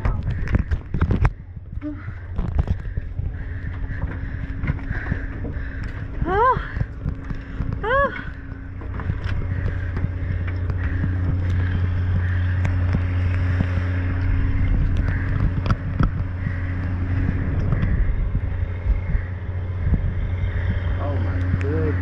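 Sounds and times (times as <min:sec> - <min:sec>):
low engine drone: 0:00.0 - 0:22.0
wind buffeting microphone: 0:00.0 - 0:22.0.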